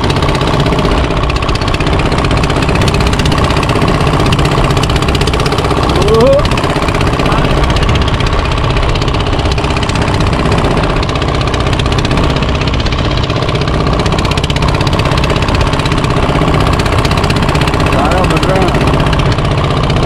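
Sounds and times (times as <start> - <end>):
diesel boat engine running: 0.0 - 20.0.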